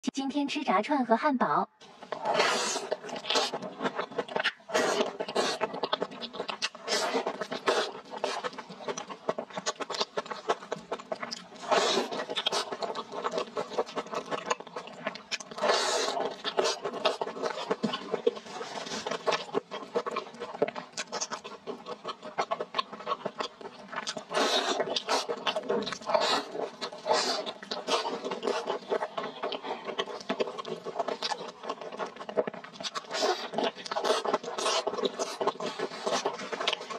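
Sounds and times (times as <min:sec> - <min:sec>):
chewing a hamburger: 0:01.8 - 0:36.9.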